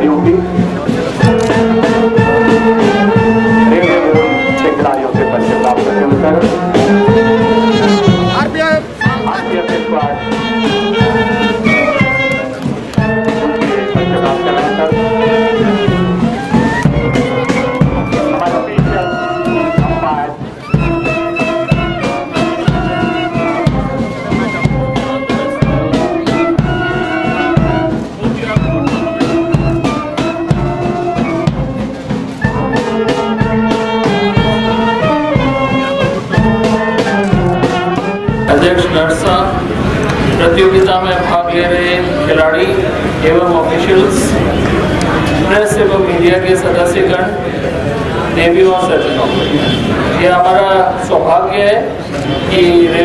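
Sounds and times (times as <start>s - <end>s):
brass band music: 0.0s - 53.0s
steady knocking beat: 0.0s - 53.0s.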